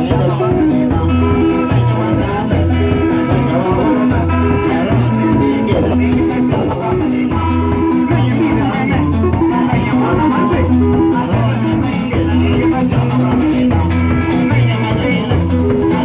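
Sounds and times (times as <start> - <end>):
guitar riff: 0.0 - 16.0
live band playing: 0.0 - 16.0.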